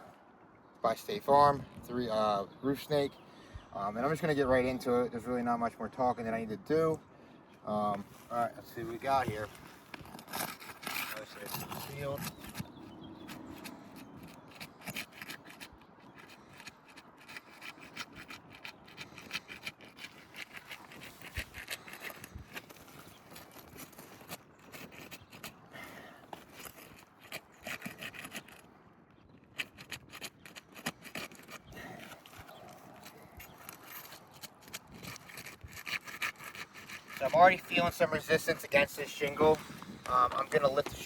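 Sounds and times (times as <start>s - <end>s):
pry bar scraping shingles: 7.8s - 41.0s.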